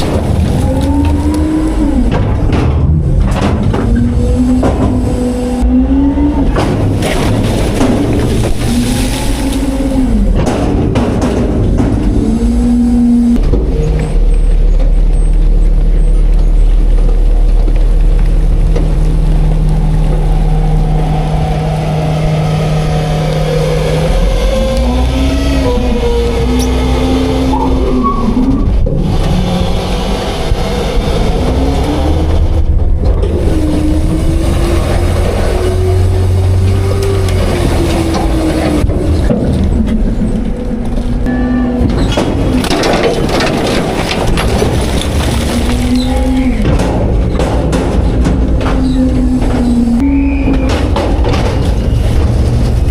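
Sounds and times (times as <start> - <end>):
garbage truck engine running: 0.0 - 52.9.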